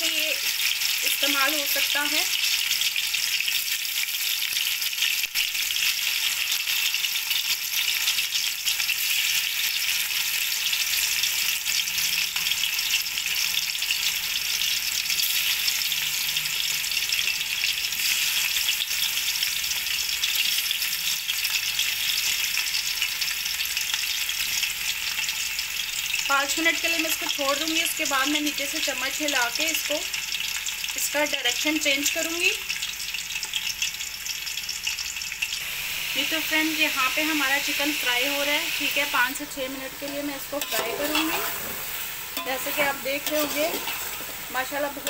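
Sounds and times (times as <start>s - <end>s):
chicken deep-frying in oil: 0.0s - 45.0s.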